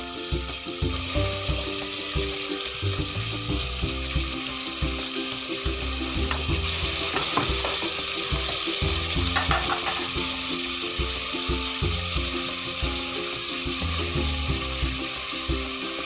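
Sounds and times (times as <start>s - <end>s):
background music with steady beat: 0.0s - 16.0s
meat sizzling in hot oil: 0.0s - 16.0s.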